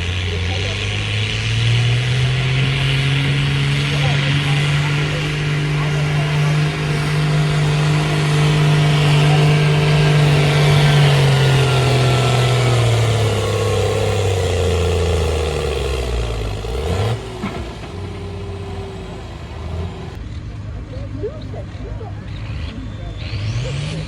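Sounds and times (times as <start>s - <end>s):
tractor engine revving under load: 0.0s - 20.2s, 22.2s - 24.0s.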